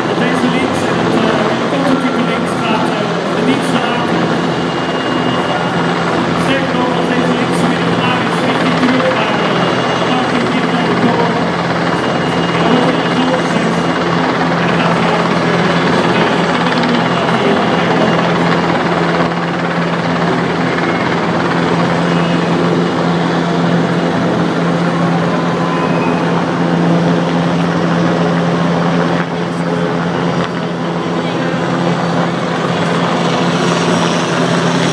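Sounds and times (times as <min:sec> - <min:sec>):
helicopter rotor drone: 0:00.0 - 0:34.9.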